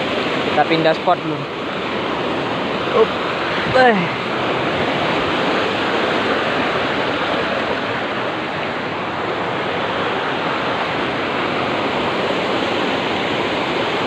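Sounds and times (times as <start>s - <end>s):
water rushing over weir: 0.0s - 14.0s.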